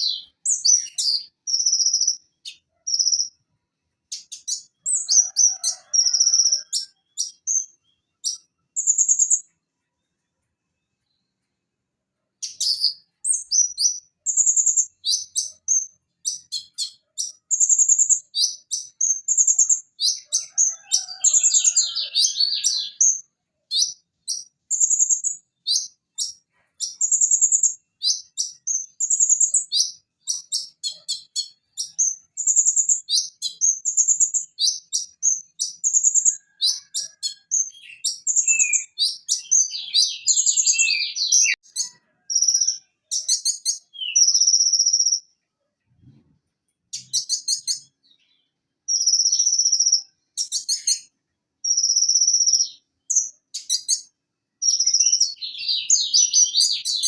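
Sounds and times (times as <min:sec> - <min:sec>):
bird twittering song: 0:00.0 - 0:03.4, 0:04.1 - 0:10.2, 0:12.4 - 0:45.3, 0:46.9 - 0:57.0.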